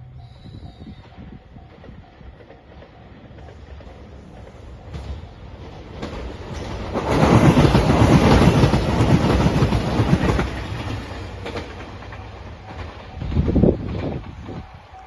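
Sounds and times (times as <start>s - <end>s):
diesel train passing: 0.0s - 15.0s
wheels clacking over rail joints: 1.0s - 15.0s.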